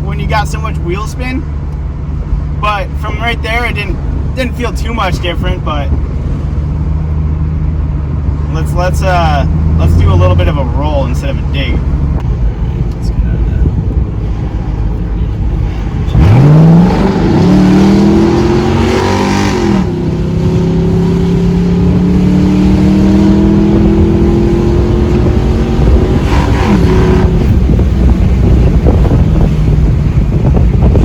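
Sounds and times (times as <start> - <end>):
road rumble: 0.0 - 31.0
car engine accelerating: 5.4 - 31.0.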